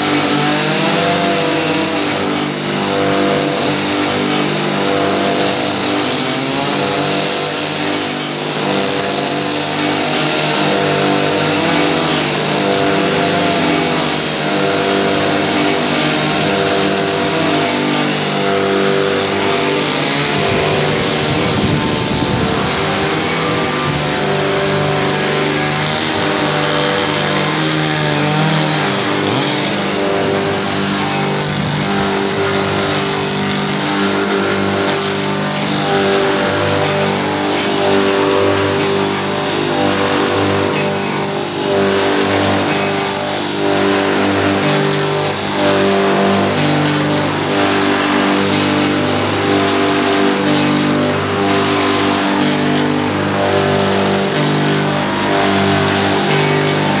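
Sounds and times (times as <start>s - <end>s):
log-rounding machine humming: 0.0s - 57.0s.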